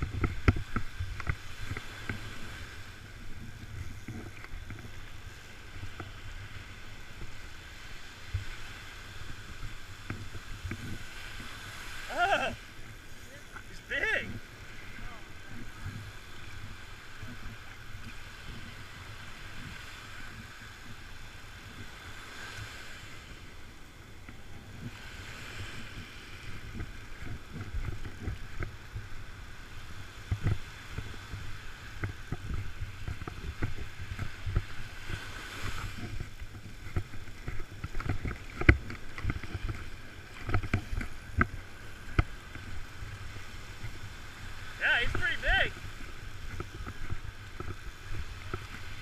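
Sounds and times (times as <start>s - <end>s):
surf: 0.0s - 49.0s
wind rumble on microphone: 0.0s - 49.0s.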